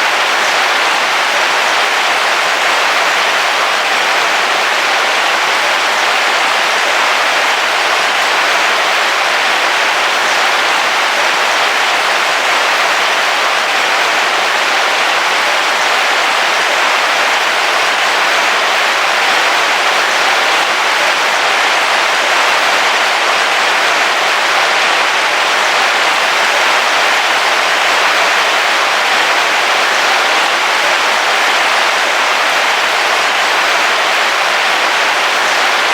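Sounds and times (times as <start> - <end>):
heavy rain on vehicle roof: 0.0 - 35.9.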